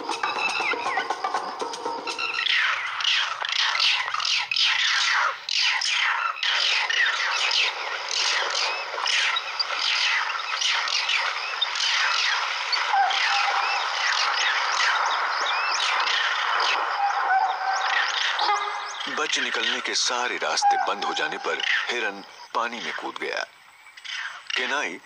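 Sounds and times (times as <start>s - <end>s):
chorus of squawking animal calls: 0.0s - 25.0s.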